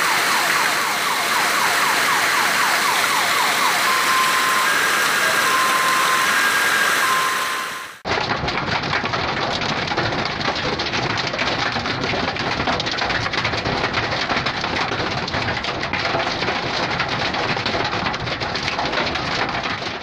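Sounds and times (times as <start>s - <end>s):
hail and heavy rain falling: 0.0s - 20.0s.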